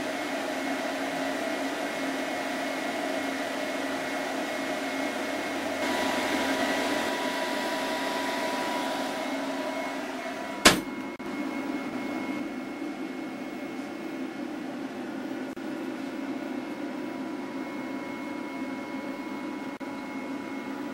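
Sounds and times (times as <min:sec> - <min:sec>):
computer cooling fans humming: 0:00.0 - 0:20.9.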